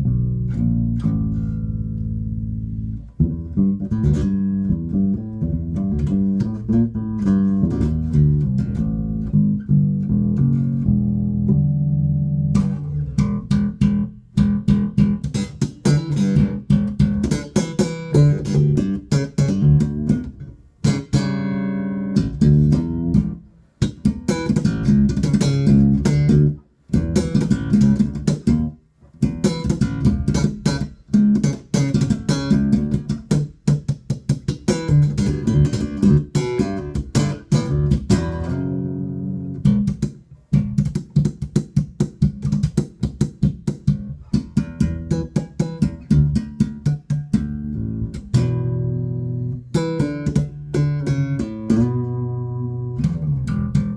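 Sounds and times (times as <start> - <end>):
electric bass playing: 0.0 - 53.9.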